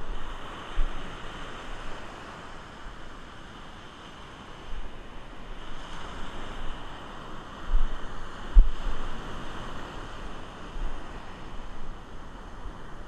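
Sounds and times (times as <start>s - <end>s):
surf washing over beach: 0.0s - 13.0s
wind rumbling on microphone: 0.0s - 13.0s.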